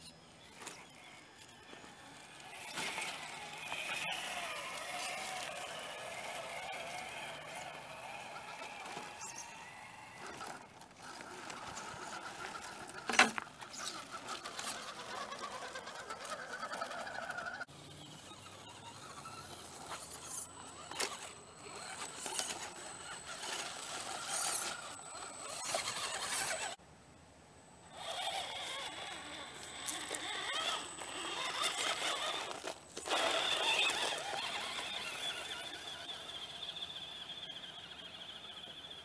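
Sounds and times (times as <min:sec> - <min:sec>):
toy car motor whining: 0:00.2 - 0:26.8, 0:27.8 - 0:39.0.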